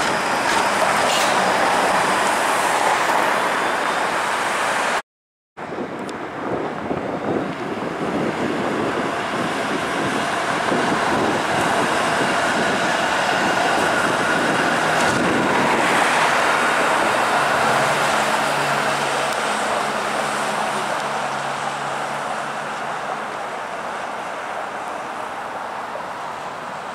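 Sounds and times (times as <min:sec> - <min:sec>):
road traffic: 0:00.0 - 0:05.0, 0:05.6 - 0:26.9
streetcar rolling on rails: 0:00.0 - 0:05.0, 0:05.6 - 0:26.9.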